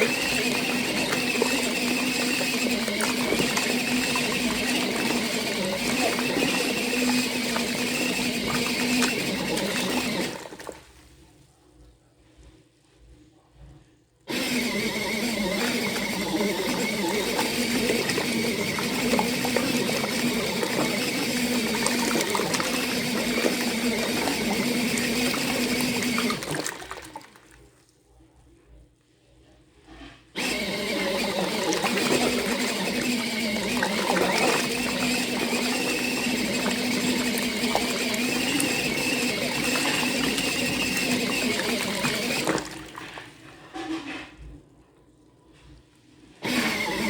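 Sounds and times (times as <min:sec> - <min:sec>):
washing machine motor humming: 0:00.0 - 0:11.0, 0:14.2 - 0:27.6, 0:30.4 - 0:43.4, 0:46.4 - 0:47.0.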